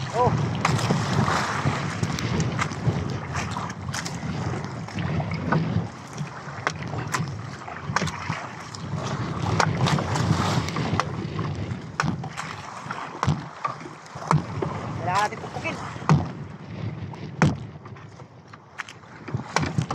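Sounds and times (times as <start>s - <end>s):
knocks and thumps on hull: 0.0s - 19.9s
sea noise: 0.0s - 19.9s
wind: 0.0s - 19.9s.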